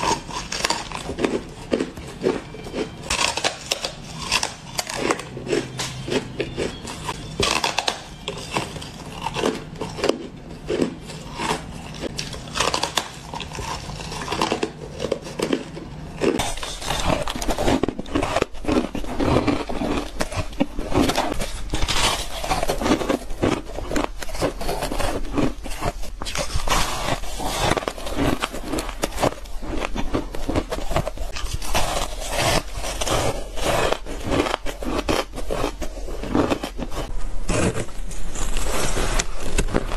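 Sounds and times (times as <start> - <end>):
crunching bites of ice: 0.0 - 39.9.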